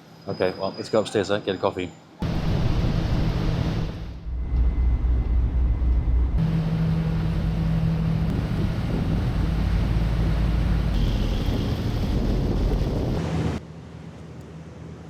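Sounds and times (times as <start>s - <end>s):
ship engines droning: 0.0s - 15.0s
steady hum: 2.2s - 15.0s.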